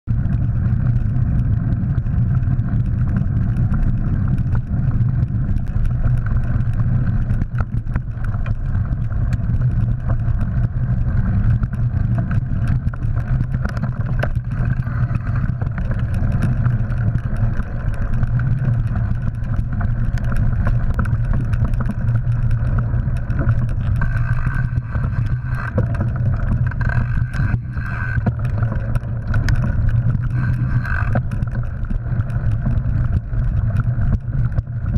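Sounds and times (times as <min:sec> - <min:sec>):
wind and ride vibration rumble: 0:00.0 - 0:34.9
bike clicks and knocks: 0:00.2 - 0:34.9.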